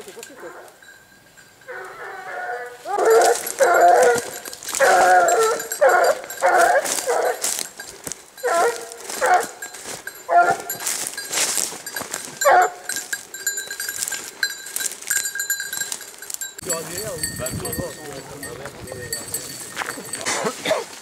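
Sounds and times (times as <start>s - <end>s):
hunting dogs baying: 1.6s - 21.0s.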